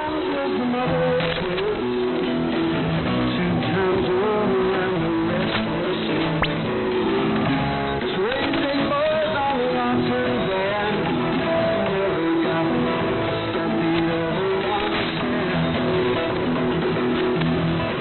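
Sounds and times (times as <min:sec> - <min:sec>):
guitar music over radio: 0:00.0 - 0:18.0.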